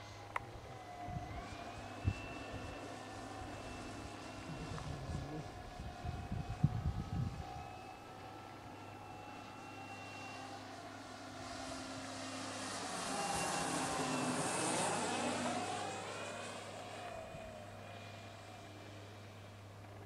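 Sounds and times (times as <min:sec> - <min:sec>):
model plane motor whine: 0:00.0 - 0:20.0.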